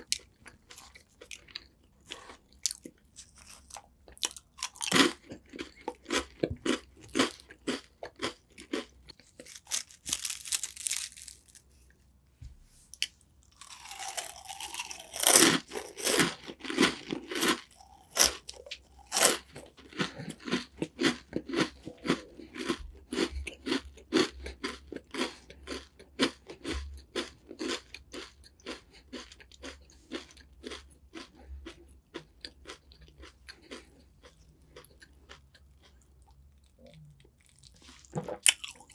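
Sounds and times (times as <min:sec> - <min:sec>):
crunchy snack being chewed: 0:00.0 - 0:11.7, 0:13.0 - 0:38.9.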